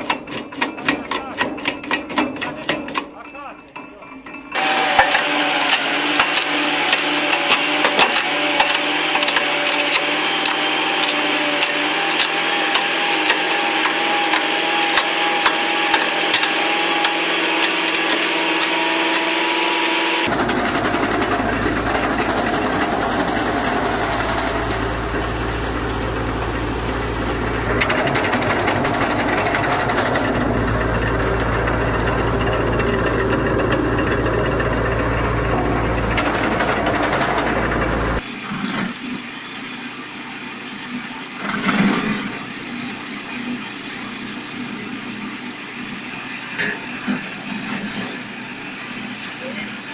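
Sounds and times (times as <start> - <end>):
wood chipper running: 4.5 - 49.9
rumbling engine drone: 5.2 - 49.9.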